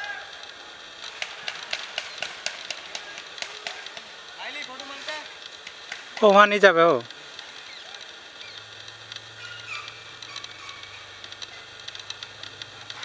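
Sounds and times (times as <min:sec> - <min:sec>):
faint ticks and chirps: 0:00.4 - 0:13.0.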